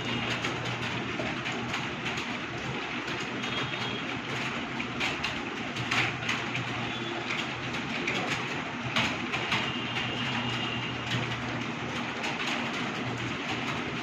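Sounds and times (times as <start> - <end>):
many keyboards typing: 0.0 - 14.0.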